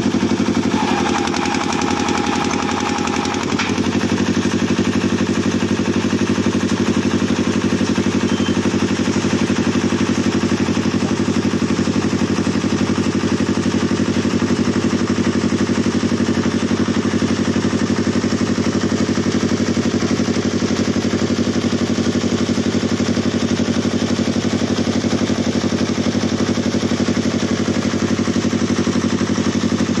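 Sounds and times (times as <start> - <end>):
concrete mixer engine running: 0.0 - 30.0.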